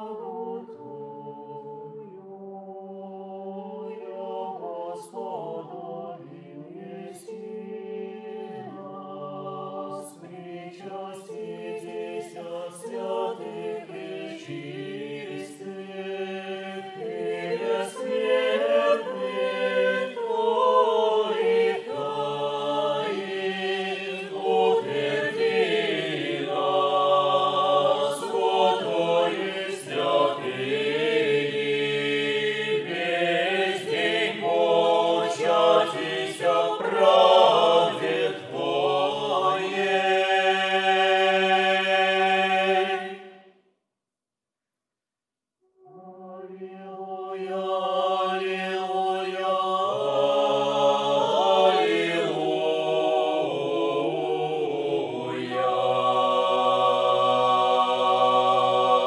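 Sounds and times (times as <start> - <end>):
mixed choir singing a cappella: 0.0 - 43.5, 45.9 - 59.0.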